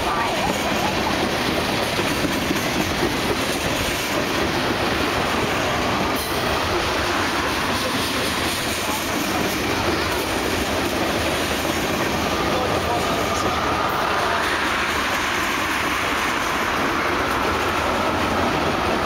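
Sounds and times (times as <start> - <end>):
train wheels rolling on rails: 0.0 - 19.0.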